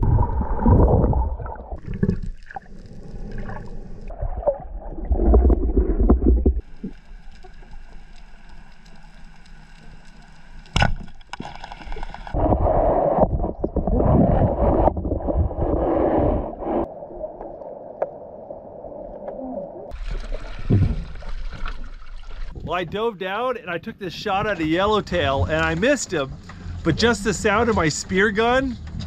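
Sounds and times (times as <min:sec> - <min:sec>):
steady underwater hum: 0:00.0 - 0:22.8, 0:24.4 - 0:28.8.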